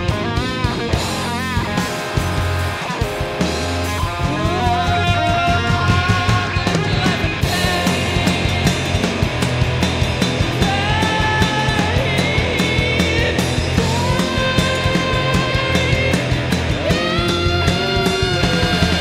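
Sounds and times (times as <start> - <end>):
rock band playing: 0.0 - 19.0
drum hits: 0.2 - 19.0.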